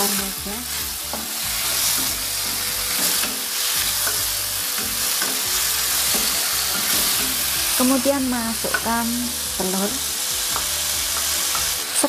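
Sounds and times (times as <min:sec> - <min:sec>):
vegetables sizzling in hot oil: 0:00.0 - 0:12.0
wooden spatula scraping wok: 0:00.0 - 0:12.0.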